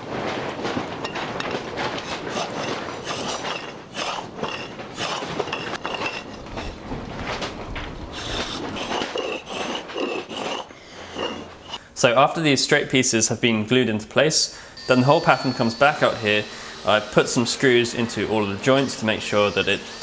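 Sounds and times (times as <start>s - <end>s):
tool scraping wood: 0.2s - 11.9s, 14.8s - 20.0s.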